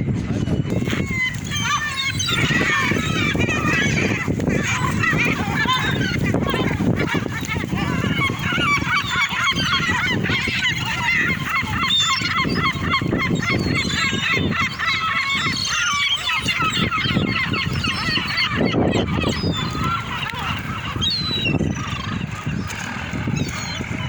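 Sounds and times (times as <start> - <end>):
flock of birds calling: 0.0 - 24.0.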